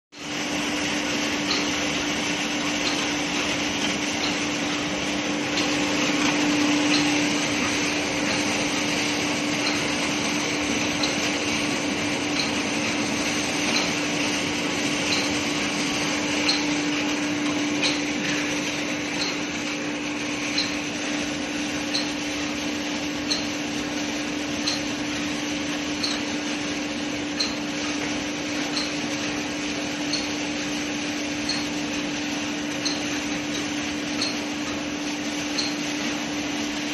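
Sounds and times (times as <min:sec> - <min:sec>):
machinery humming: 0:00.2 - 0:36.9
regular machine click: 0:00.3 - 0:36.9.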